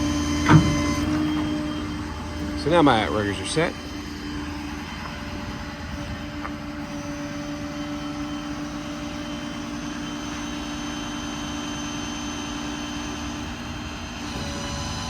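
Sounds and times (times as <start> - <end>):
diesel engine hum: 0.0 - 15.0
hydraulic system whine: 0.0 - 15.0.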